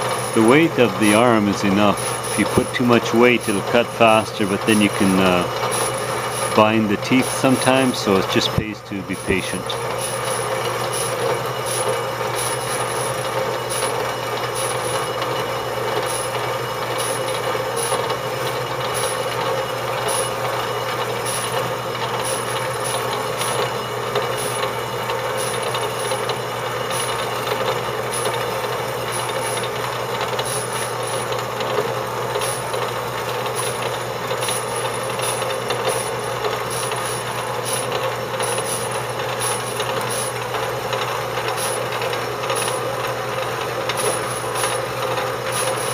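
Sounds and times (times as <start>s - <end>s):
bandsaw blade rasping through metal: 0.0s - 8.2s, 9.7s - 31.4s, 32.3s - 40.5s
fast irregular ticking: 0.0s - 45.9s
motor hum: 0.0s - 45.9s.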